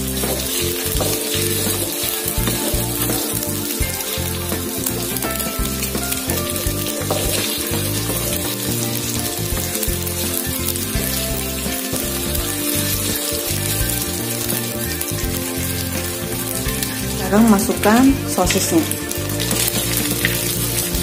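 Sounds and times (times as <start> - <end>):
background music: 0.0 - 21.0
eggs sizzling in hot oil: 0.0 - 21.0.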